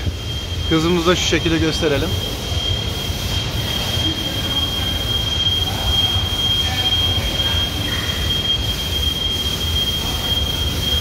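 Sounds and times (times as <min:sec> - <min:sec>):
high-pitched machine whine: 0:00.0 - 0:11.0
machine drive humming: 0:00.0 - 0:11.0.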